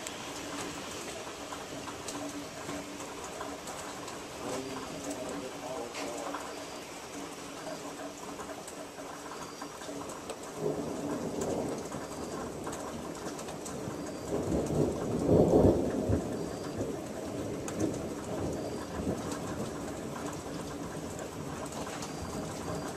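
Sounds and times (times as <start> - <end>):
rain hiss: 0.0 - 22.9
thunder rumbling: 0.0 - 22.9.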